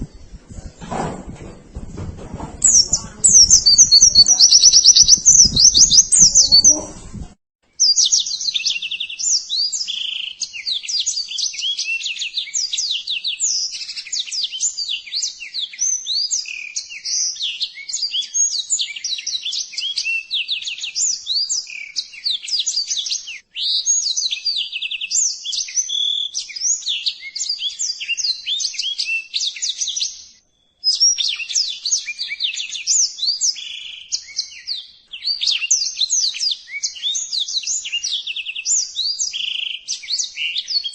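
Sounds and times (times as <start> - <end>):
bird twittering chirps and trills: 2.6 - 7.2, 7.8 - 40.9.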